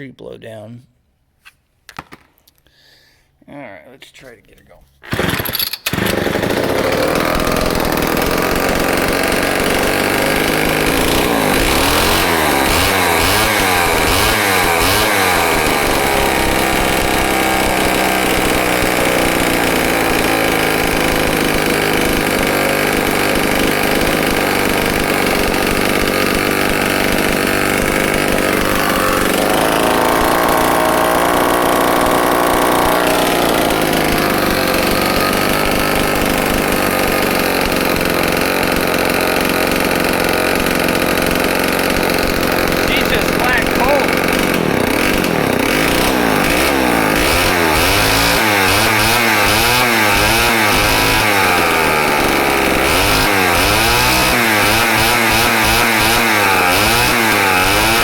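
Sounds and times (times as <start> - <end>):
chainsaw engine running: 5.0 - 58.0.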